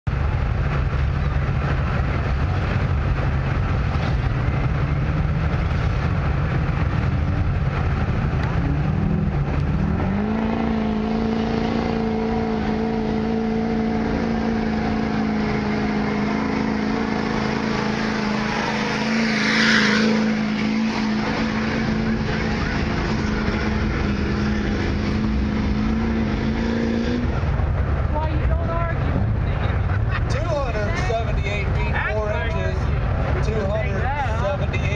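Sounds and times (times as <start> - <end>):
diesel truck engine under load: 0.0 - 34.9
truck passing close: 0.1 - 34.9.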